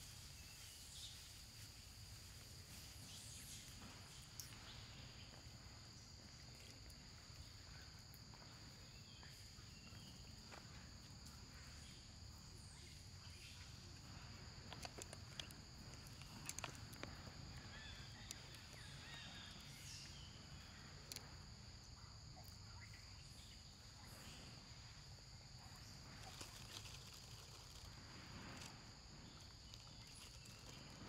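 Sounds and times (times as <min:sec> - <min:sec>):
insect chorus: 0:00.0 - 0:31.0.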